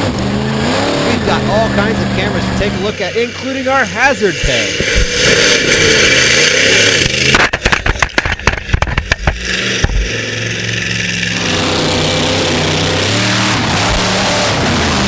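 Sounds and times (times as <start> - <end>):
truck engine running hard: 0.0 - 15.0.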